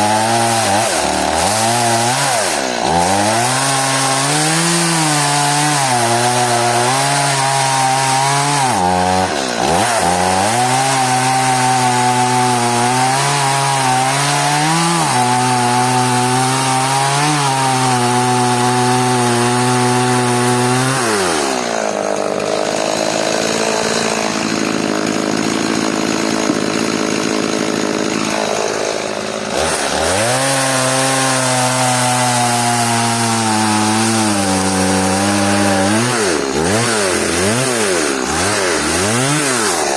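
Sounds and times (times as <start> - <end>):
chainsaw sawing through wood: 0.0 - 39.9.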